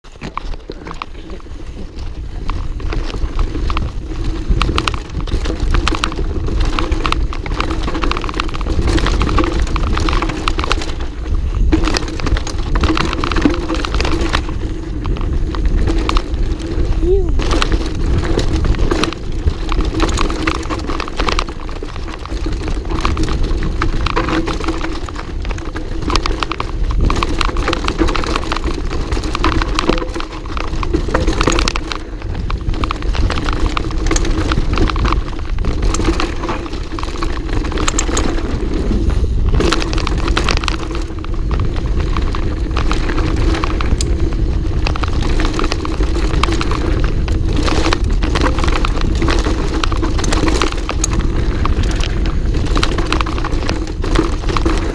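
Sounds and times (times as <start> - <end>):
bike rattling and clattering: 0.0 - 54.9
tyre rumble: 0.0 - 54.9
wind: 0.0 - 54.9.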